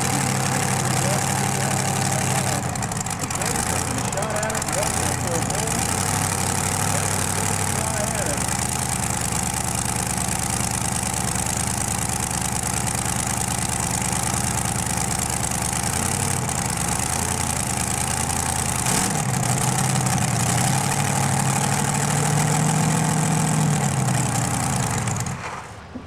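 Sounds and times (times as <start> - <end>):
tractor engines idling: 0.0 - 26.0.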